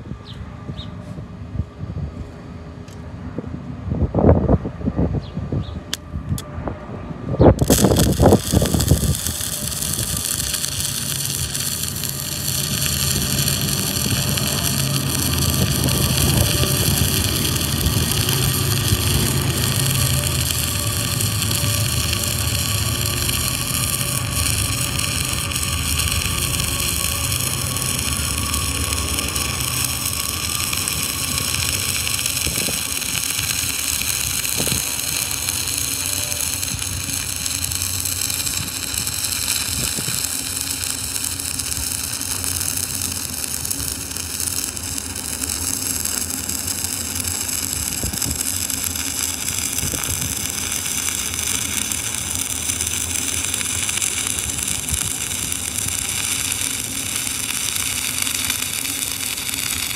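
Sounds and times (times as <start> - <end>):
welding arc crackling: 7.5 - 59.9.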